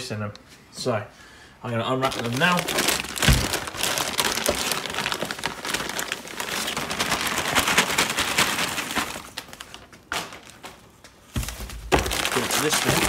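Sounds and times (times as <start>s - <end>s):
plastic wrapping crinkling: 1.9s - 13.0s.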